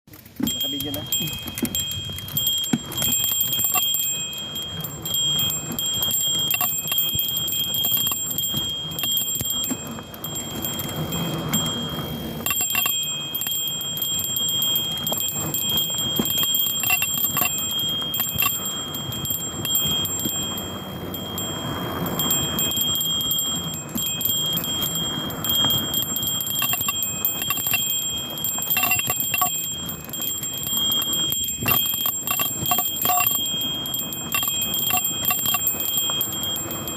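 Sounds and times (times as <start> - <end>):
bicycle bell ringing: 0.1 - 36.9
tyres rumbling on trail: 0.1 - 36.9
wind: 0.1 - 36.9.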